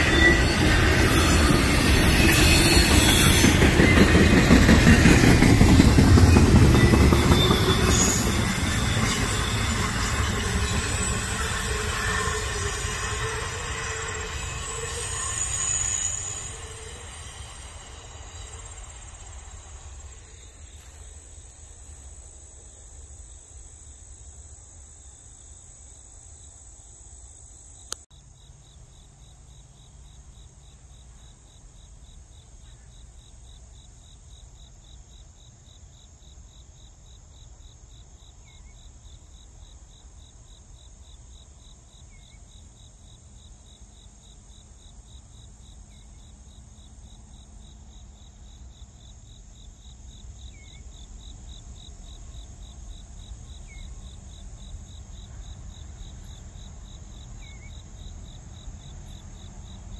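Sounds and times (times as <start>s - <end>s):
crickets chirping: 0.0s - 59.9s
high insect drone: 0.0s - 59.9s.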